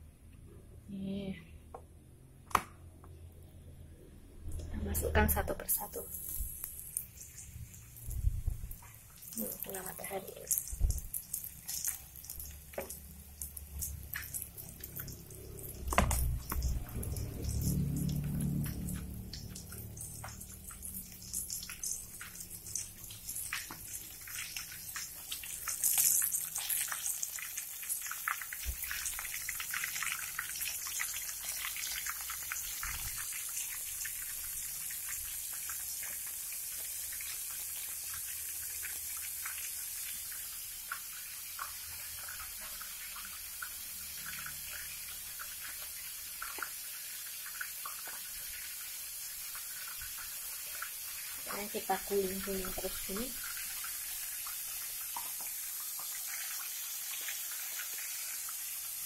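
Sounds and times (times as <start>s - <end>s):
shrimp deep-frying in oil: 4.4s - 59.0s.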